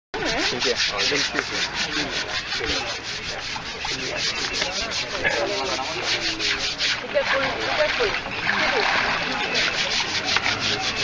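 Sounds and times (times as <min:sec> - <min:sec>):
scrubbing wet hide by hand: 0:00.2 - 0:11.0.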